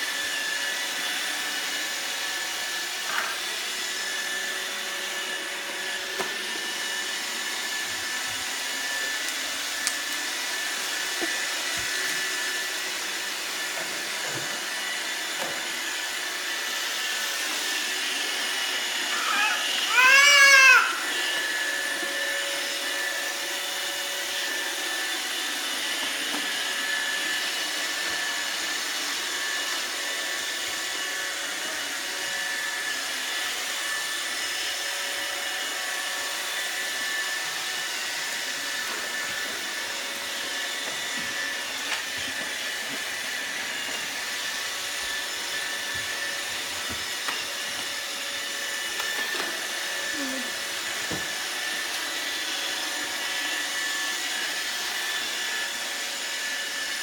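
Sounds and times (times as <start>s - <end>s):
robot vacuum motor whir: 0.0s - 57.0s.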